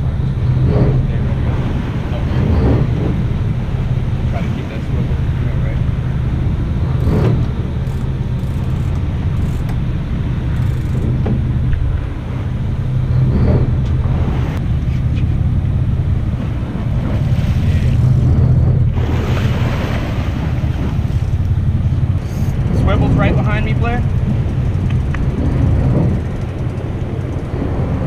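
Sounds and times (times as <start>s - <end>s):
boat engines droning: 0.0s - 28.0s
rushing wind: 0.0s - 28.0s
water rushing: 0.0s - 28.0s.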